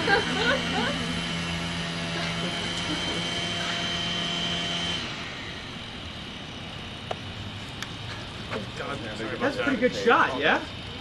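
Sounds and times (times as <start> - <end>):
motor humming with high whine: 0.0 - 11.0.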